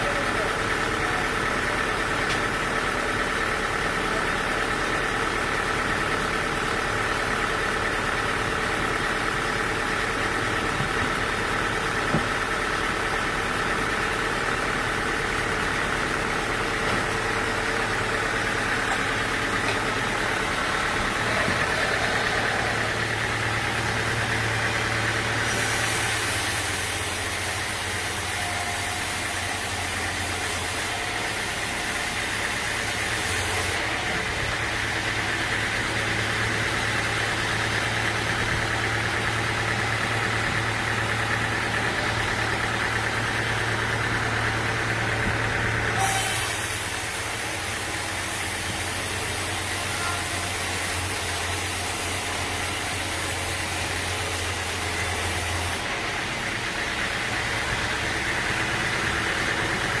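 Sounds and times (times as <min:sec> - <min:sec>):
sawmill machinery hum: 0:00.0 - 1:00.0.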